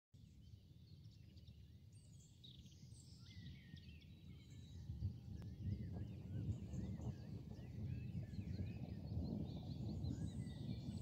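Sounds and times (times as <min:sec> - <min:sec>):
small birds chirping and whistling: 0:00.4 - 0:11.0.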